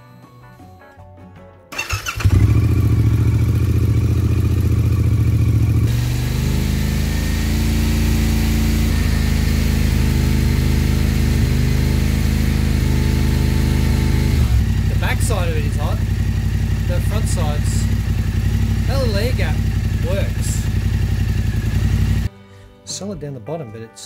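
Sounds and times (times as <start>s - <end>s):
motorcycle engine idling: 1.8s - 22.3s.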